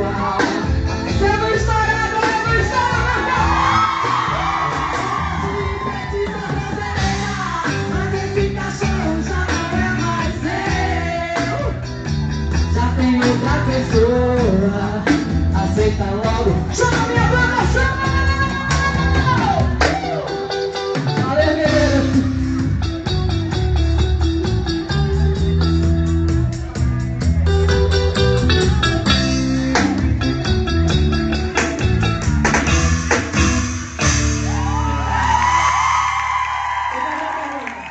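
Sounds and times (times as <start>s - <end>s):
drum kit steady beat: 0.0s - 35.6s
stepping bass line: 0.0s - 36.8s
live band playing upbeat song: 0.0s - 37.7s.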